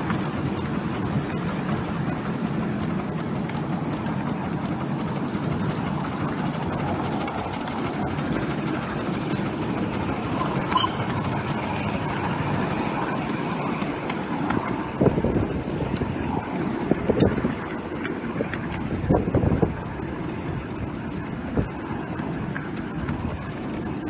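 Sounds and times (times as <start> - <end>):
steam train rumbling on track: 0.0 - 24.0.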